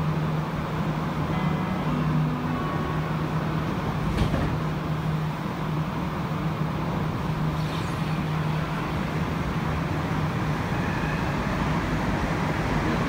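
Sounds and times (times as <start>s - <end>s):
train car hum and rumble: 0.0s - 13.0s.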